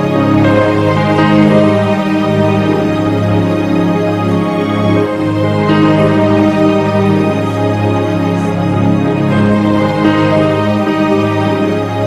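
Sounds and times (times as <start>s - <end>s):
held keyboard chords: 0.0s - 12.0s.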